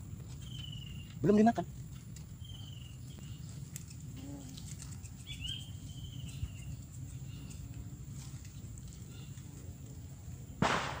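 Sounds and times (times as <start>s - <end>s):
high insect whine: 0.0s - 11.0s.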